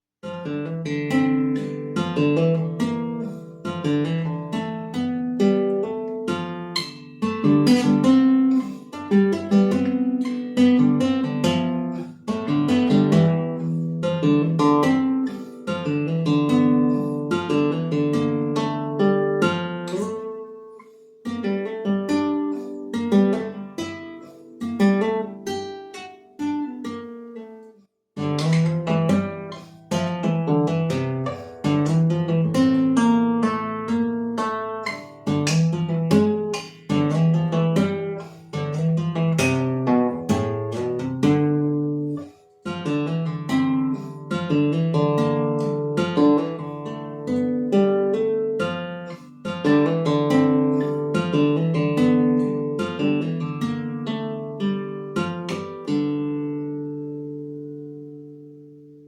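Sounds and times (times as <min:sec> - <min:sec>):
acoustic guitar playing: 0:00.2 - 0:59.0.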